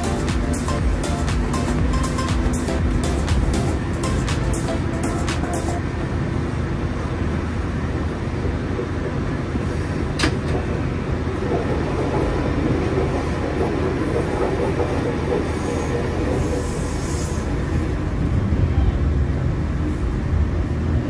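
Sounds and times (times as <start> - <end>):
wheels rumbling on rails: 0.0 - 21.0.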